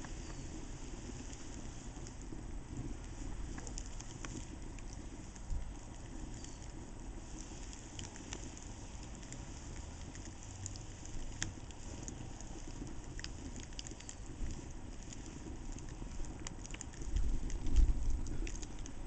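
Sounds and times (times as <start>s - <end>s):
fire crackles and pops: 0.0s - 19.0s
small flames hissing: 0.0s - 19.0s.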